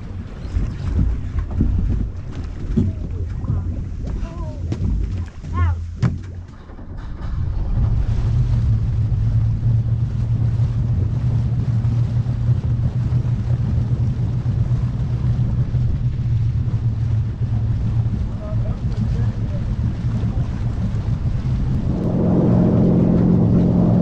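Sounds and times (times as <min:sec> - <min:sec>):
boat engine droning: 0:00.0 - 0:24.0
water jet churning: 0:00.0 - 0:24.0.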